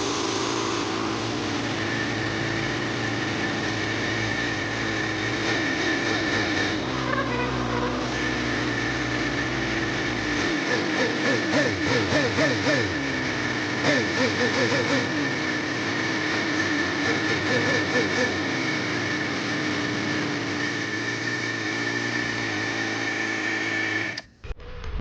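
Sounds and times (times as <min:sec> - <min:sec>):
engine running: 0:00.0 - 0:25.0
high whine: 0:00.0 - 0:25.0.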